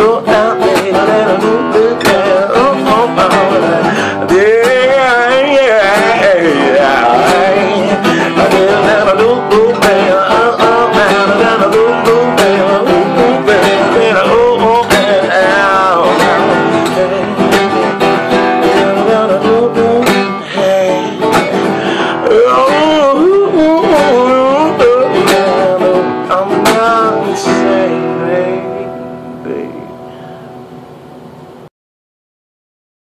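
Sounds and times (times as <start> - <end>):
person singing: 0.0 - 30.3
strummed acoustic guitar: 0.0 - 31.7.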